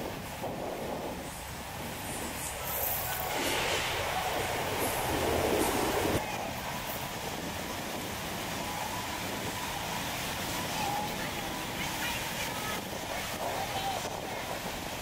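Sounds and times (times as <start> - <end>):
boat engines rumbling: 0.0 - 15.0.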